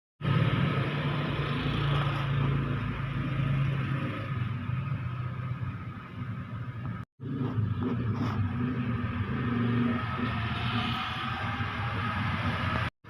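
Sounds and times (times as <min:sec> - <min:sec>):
road and wind noise: 0:00.2 - 0:12.9
vehicle engine droning: 0:00.2 - 0:12.9.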